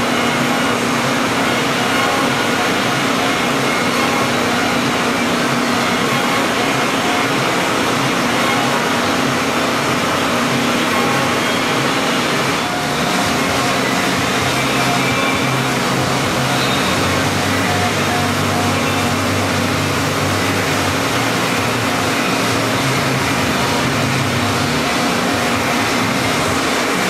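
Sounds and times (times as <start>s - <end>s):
low machine hum: 0.0s - 27.0s
milling machine cutting foam: 0.0s - 27.0s.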